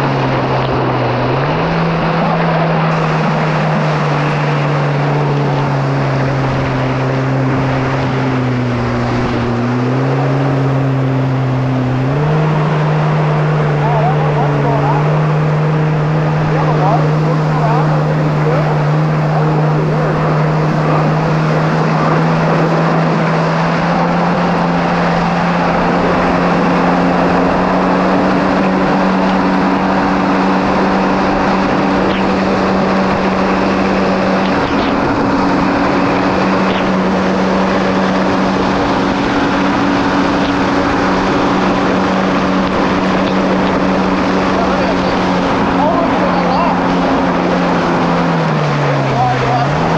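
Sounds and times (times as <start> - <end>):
jet ski engine droning: 0.0 - 49.9
water rushing and spray: 0.0 - 49.9.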